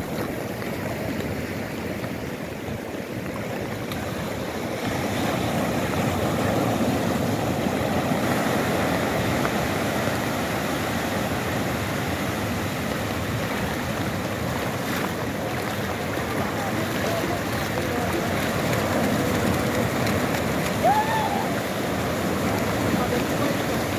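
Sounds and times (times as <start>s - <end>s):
surf washing onto beach: 0.0s - 23.9s.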